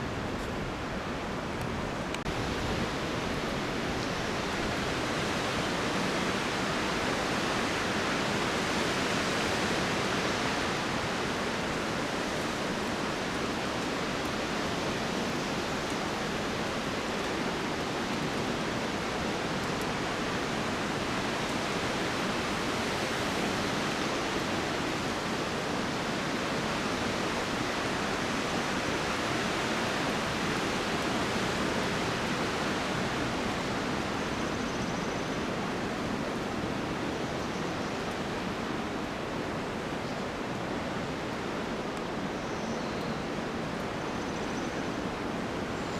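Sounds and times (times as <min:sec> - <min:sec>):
wind rushing through pines: 0:00.0 - 0:45.9.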